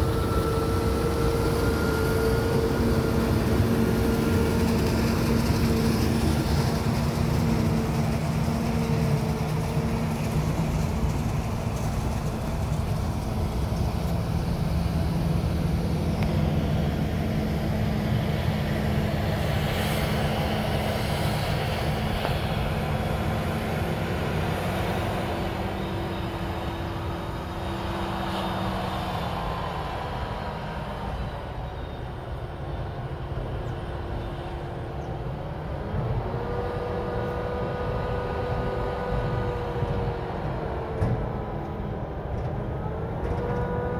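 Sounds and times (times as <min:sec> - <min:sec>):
higher machine whine: 0:00.0 - 0:43.9
low diesel engine drone: 0:00.0 - 0:43.9.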